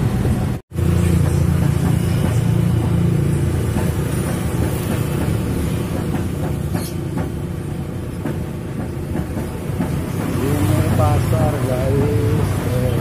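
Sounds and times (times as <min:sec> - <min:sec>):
motor vehicle engines rumbling: 0:00.0 - 0:13.0.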